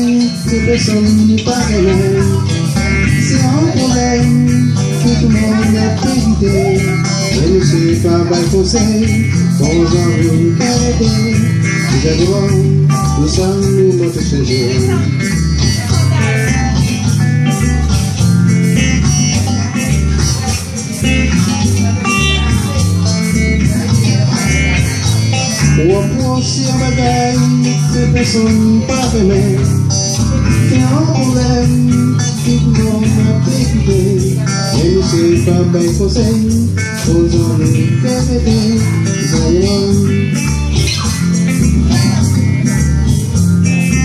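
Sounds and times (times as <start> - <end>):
bass line: 0.0 - 44.0
electric guitar: 0.0 - 44.0
man singing into microphone: 0.0 - 44.0
steady beat: 0.0 - 44.0.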